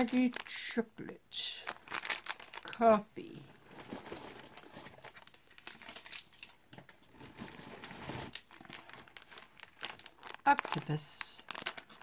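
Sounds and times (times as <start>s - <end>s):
plastic bags crinkling: 0.0s - 0.8s, 1.4s - 12.0s.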